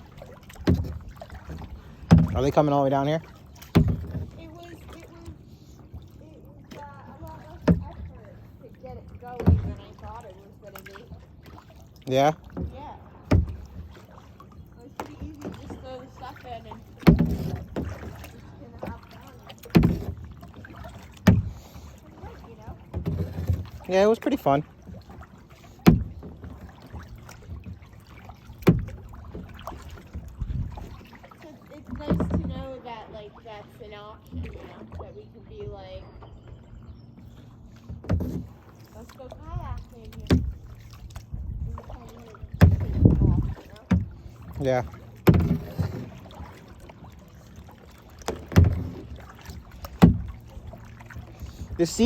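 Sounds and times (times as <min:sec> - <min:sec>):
hollow knocks on boat: 0:00.0 - 0:52.0
kayak paddle strokes in water: 0:00.0 - 0:52.0.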